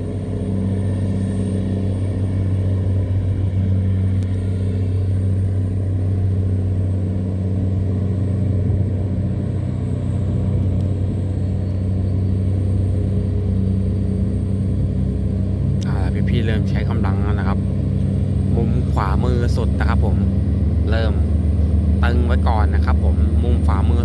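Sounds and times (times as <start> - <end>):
boat diesel engine droning: 0.0 - 24.0.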